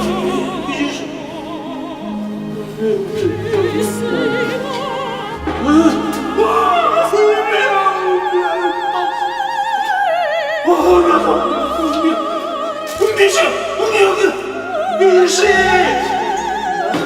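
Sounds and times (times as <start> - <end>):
orchestral accompaniment: 0.0 - 9.9, 10.7 - 17.0
operatic singing: 0.0 - 17.0.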